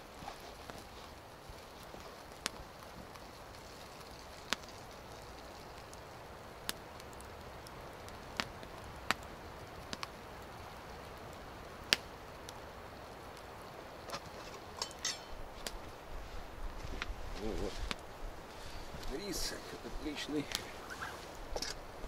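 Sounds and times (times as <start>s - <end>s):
campfire crackling: 0.0s - 22.0s
faint hiss: 0.0s - 22.0s.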